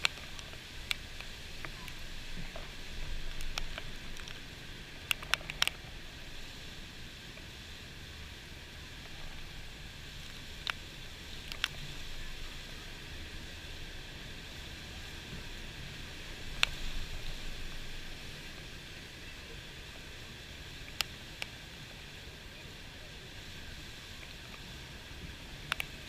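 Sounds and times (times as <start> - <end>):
surf rushing: 0.0 - 26.0.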